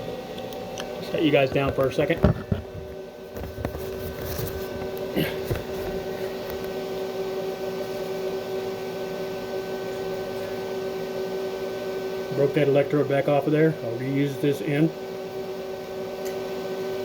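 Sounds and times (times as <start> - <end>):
welding machine hum: 0.0 - 17.0.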